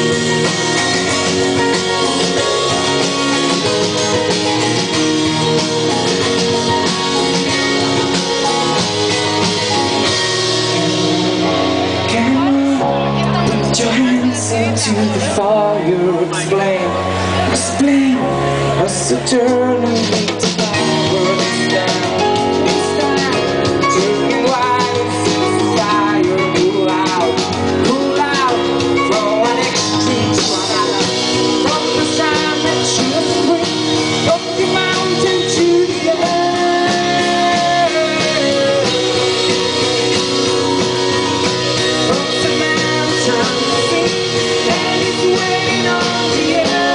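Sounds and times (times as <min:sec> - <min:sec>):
drum kit: 0:00.0 - 0:46.9
electric bass: 0:00.0 - 0:46.9
keyboard: 0:00.0 - 0:46.9
person singing: 0:00.0 - 0:46.9.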